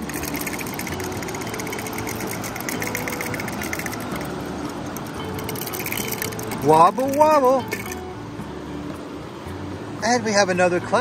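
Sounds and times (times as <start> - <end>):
river water running over stones: 0.0 - 11.0.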